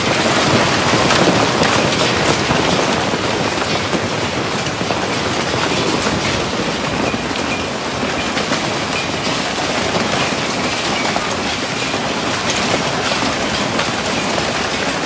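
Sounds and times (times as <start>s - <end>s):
hail pelting down: 0.0s - 15.0s.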